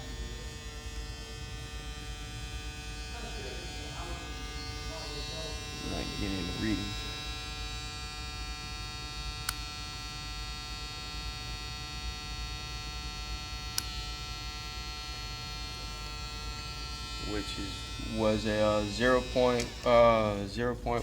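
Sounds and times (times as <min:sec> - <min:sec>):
electric hum and buzz: 0:00.0 - 0:21.0.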